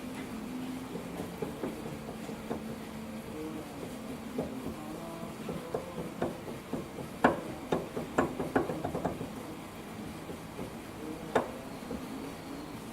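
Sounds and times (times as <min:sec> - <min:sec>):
wheel hub clunking: 0:00.9 - 0:12.9.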